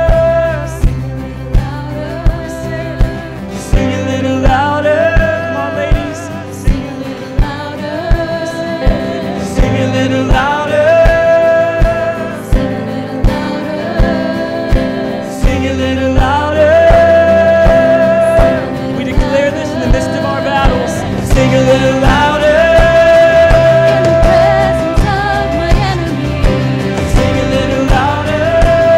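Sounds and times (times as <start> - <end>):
steady drum beat: 0.0 - 28.9
worship band playing: 0.0 - 28.9.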